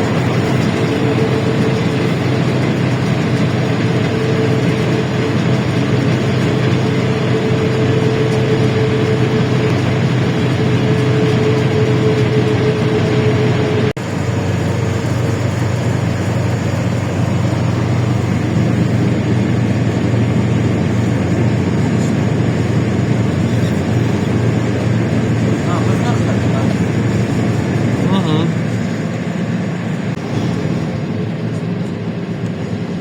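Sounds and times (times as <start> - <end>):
bus engine droning: 0.0 - 33.0
high steady whine: 0.0 - 33.0.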